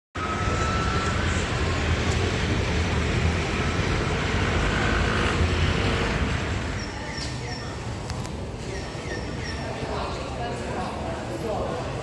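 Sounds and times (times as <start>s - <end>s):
railway station platform ambience: 0.2s - 12.0s.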